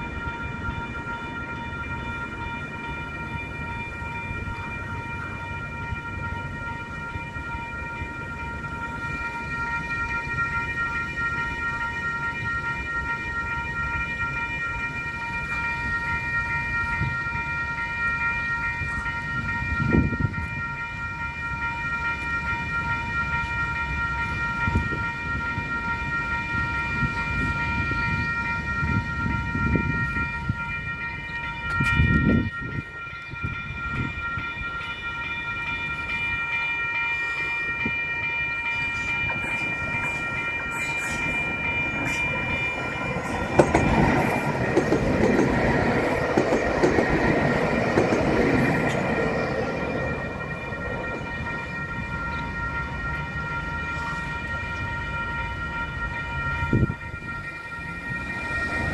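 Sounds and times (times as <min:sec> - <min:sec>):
electric train approaching: 0:00.0 - 0:58.9
level crossing warning bell: 0:00.0 - 0:58.9.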